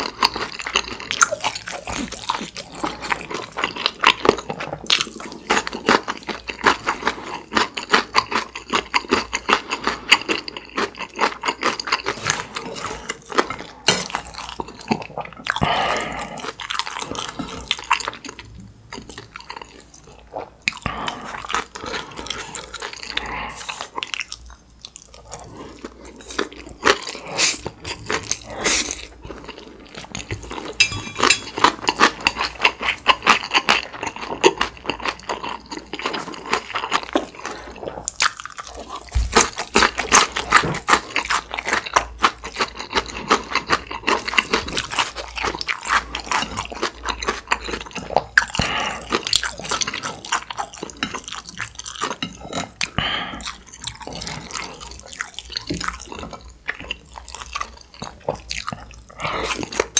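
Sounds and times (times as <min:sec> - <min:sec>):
chewing noodles: 0:00.0 - 0:59.9.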